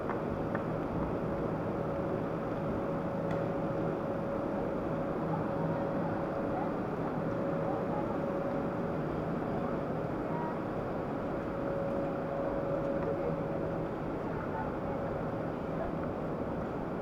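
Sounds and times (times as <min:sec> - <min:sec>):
train machinery drone: 0:00.0 - 0:17.0.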